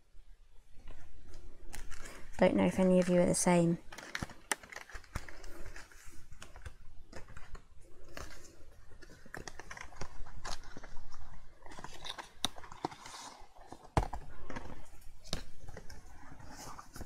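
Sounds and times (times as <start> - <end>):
card box handled by hand: 1.8 - 17.0
paper sheets rustling: 1.8 - 17.0.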